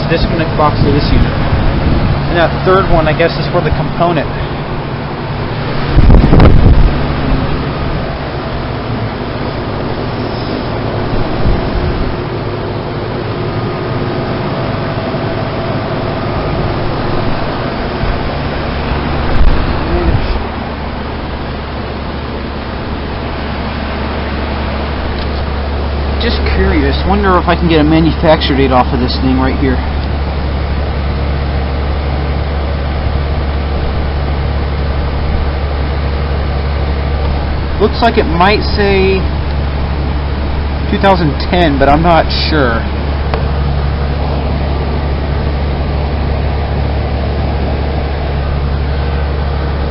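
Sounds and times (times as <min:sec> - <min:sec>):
compressor hum: 0:00.0 - 0:49.9
condenser fan rushing: 0:00.0 - 0:49.9
heat pump bump: 0:00.0 - 0:49.9.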